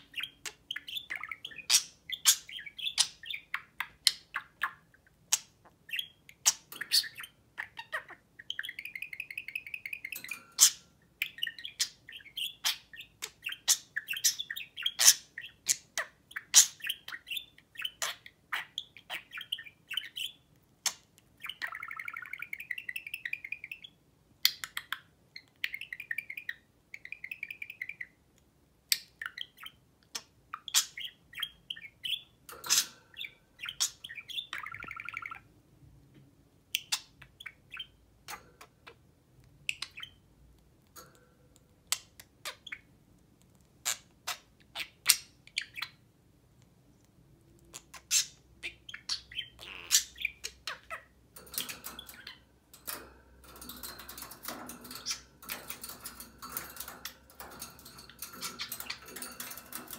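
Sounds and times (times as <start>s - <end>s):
budgerigars chirping and warbling: 0.0s - 28.2s, 28.9s - 35.5s, 36.7s - 40.2s, 41.8s - 43.0s, 43.7s - 46.1s, 47.6s - 59.9s.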